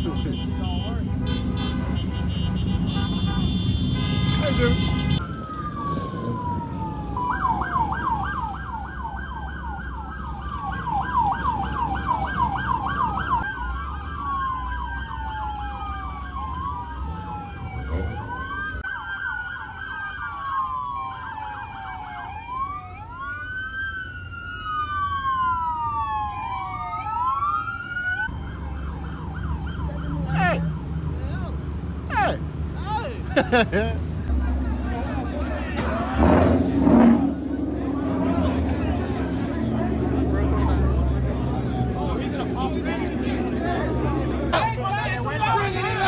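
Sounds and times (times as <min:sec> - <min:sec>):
police sirens: 0:00.0 - 0:46.0
traffic rumble: 0:00.0 - 0:46.0.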